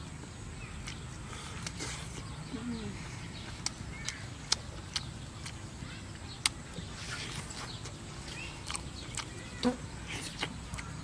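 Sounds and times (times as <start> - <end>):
person chewing: 0.6 - 2.4, 3.1 - 11.0
mouth clicks and smacks: 0.8 - 2.4, 3.4 - 11.0.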